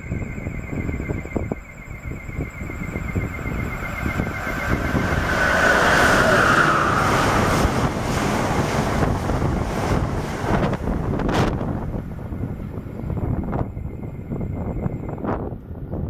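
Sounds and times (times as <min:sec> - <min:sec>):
passenger train passing at speed: 0:00.0 - 0:16.0
rush of train wheels and air: 0:00.0 - 0:16.0
wind buffeting microphone: 0:00.0 - 0:16.0.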